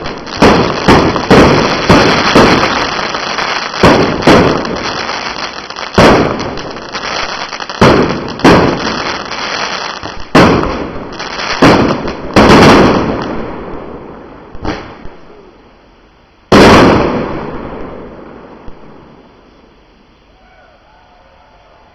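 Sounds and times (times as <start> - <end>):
firework bangs: 0.0 - 15.2, 16.5 - 19.2.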